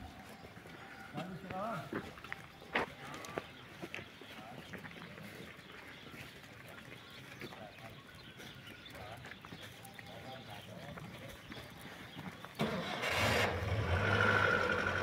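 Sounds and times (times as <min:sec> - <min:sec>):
footsteps on stony dirt: 0:00.0 - 0:12.6.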